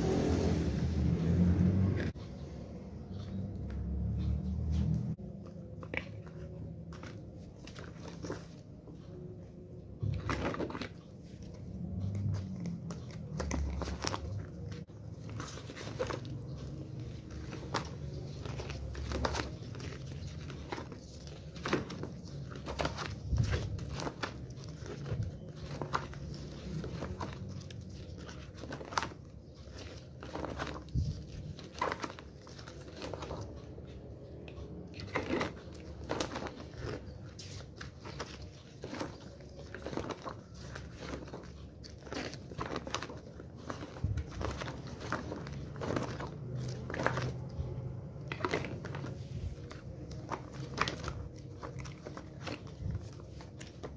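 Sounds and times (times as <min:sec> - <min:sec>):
photo pages turning: 0:04.2 - 0:09.3, 0:10.0 - 0:53.9.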